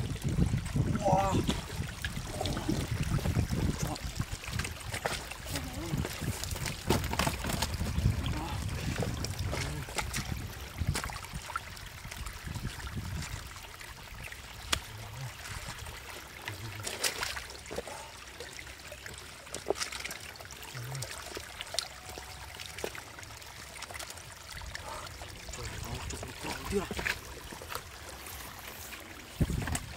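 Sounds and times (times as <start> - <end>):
water trickling over stones: 0.0 - 29.9
small splashes: 0.6 - 29.9.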